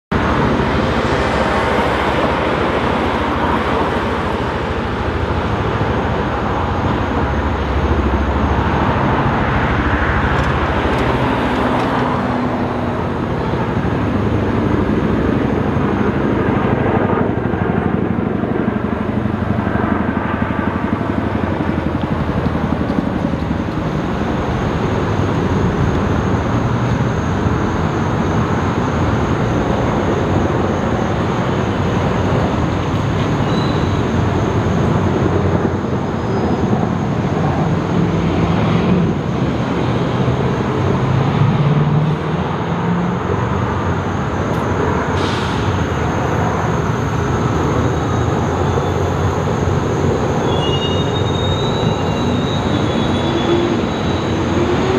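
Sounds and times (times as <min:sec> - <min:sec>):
helicopter rotor noise: 0:00.1 - 0:54.9.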